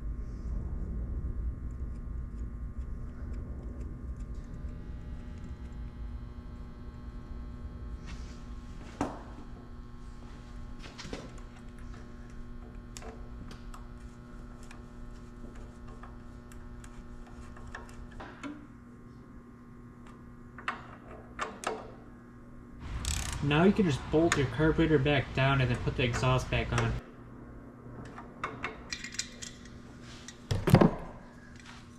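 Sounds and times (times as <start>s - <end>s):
steady electrical hum: 0.0s - 31.9s.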